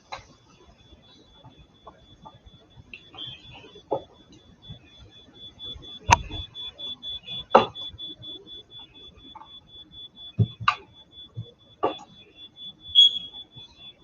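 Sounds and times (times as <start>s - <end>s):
smoke alarm beeping: 0.0s - 14.0s.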